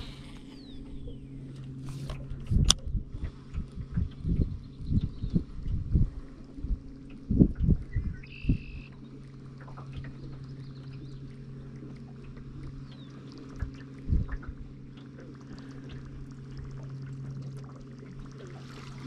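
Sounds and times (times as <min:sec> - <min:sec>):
water lapping against hull: 0:00.0 - 0:19.0.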